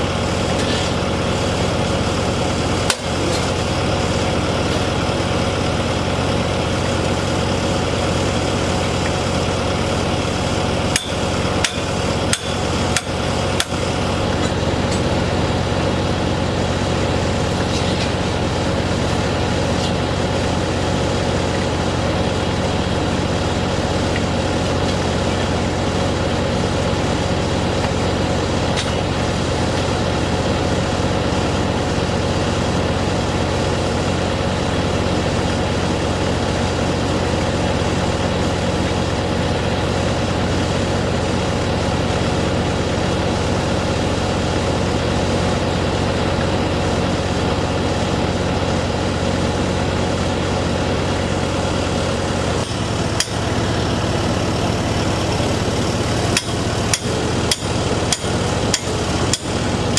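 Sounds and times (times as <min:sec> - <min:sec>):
large engine humming: 0:00.0 - 0:59.9.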